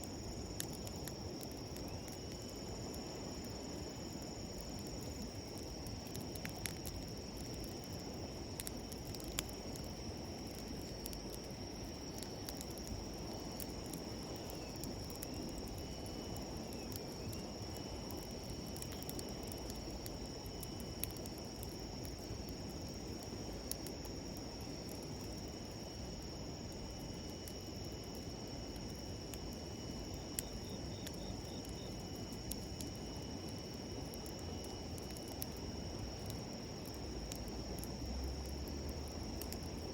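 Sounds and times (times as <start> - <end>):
campfire crackling and popping: 0.0 - 39.9
insects trilling: 0.0 - 39.9.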